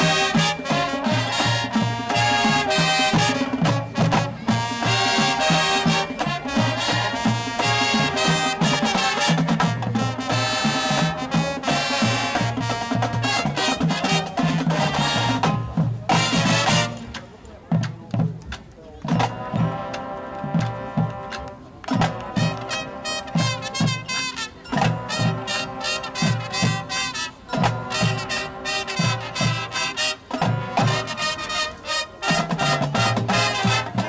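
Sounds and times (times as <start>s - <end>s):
marching band playing: 0.0s - 34.0s.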